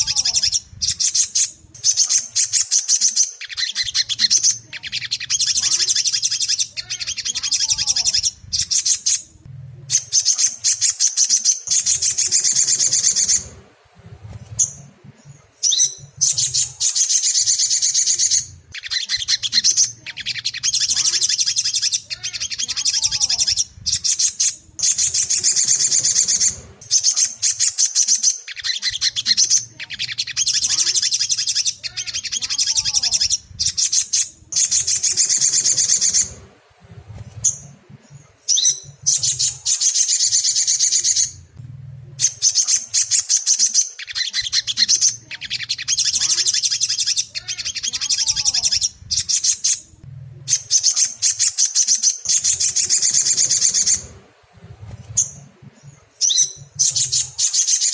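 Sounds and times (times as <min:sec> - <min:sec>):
bird chattering trills: 0:00.0 - 0:41.6, 0:42.2 - 0:57.9.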